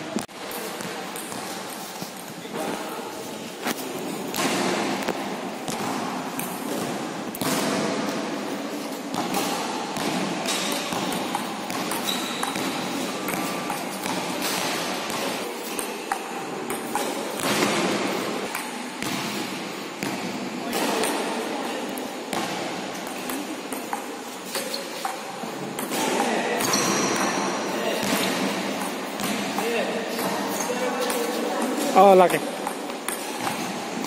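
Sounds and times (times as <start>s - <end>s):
steady background noise: 0.0s - 34.0s.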